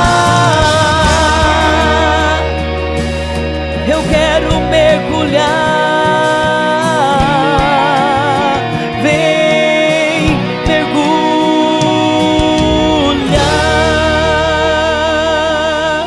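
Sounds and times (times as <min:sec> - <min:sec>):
instrumental backing: 0:00.0 - 0:16.0
person singing with vibrato: 0:00.0 - 0:16.0.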